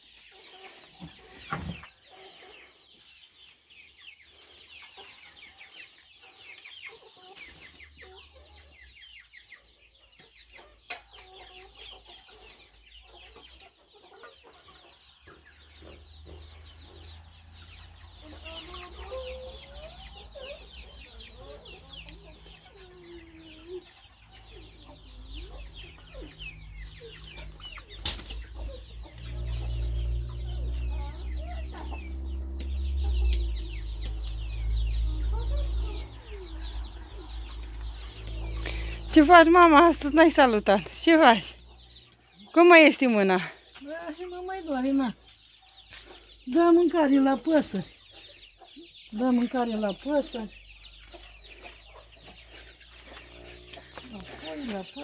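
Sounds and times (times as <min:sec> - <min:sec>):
chicks peeping: 0:00.0 - 0:55.0
hen clucking: 0:00.0 - 0:55.0.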